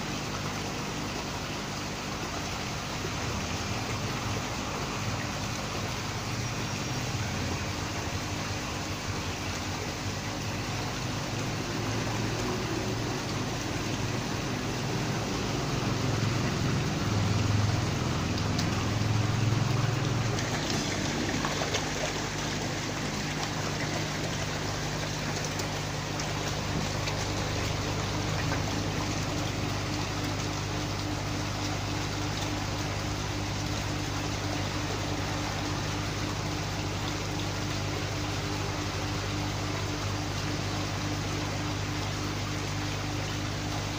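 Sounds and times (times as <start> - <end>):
steady low hum: 0.0 - 43.9
water splashing and bubbling: 0.0 - 43.9.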